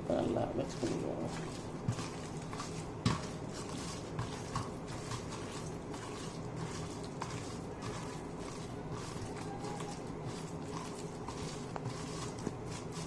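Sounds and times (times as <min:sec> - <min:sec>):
wet squishing of mixing meat: 0:00.0 - 0:13.0.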